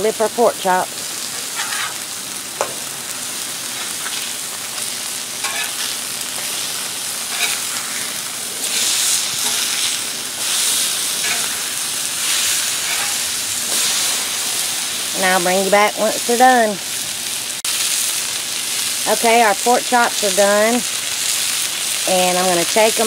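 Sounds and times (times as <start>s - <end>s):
meat sizzling on griddle: 0.0s - 23.0s.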